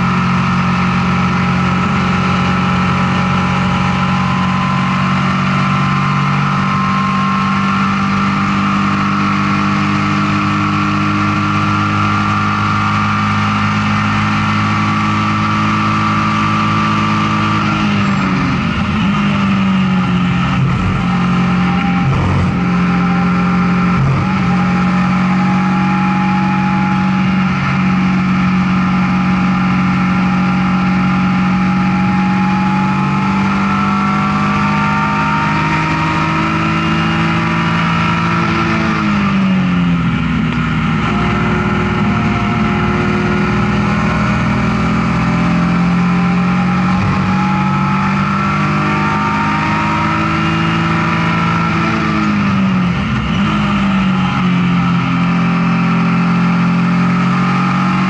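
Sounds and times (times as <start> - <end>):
race car engine from inside cabin: 0.0 - 58.0.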